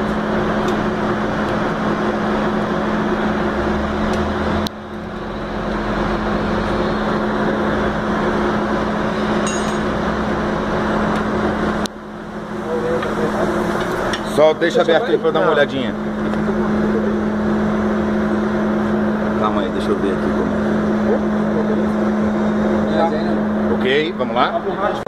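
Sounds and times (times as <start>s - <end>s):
machine drone with low hum: 0.0s - 25.0s.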